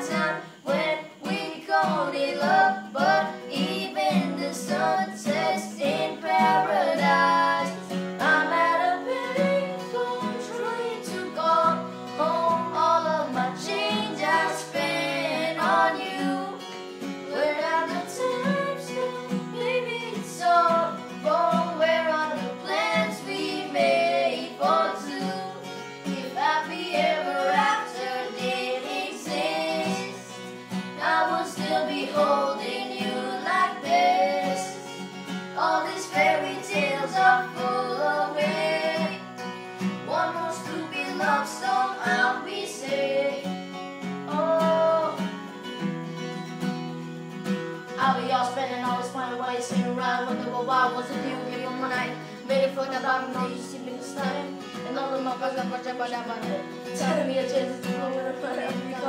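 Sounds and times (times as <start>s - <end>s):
person singing: 0.0s - 16.6s, 17.3s - 34.9s, 35.6s - 39.4s, 40.0s - 43.5s, 44.3s - 45.3s, 48.0s - 59.0s
acoustic guitar: 0.0s - 59.0s.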